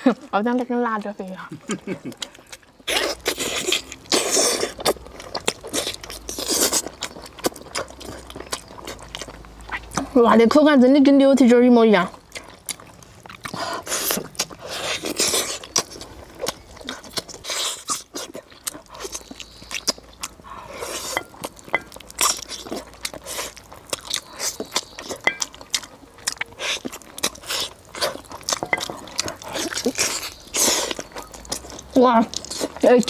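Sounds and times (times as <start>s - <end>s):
biting and chewing meat: 0.0s - 10.7s, 11.4s - 33.0s
lip-smacking: 0.1s - 10.2s, 12.2s - 33.0s.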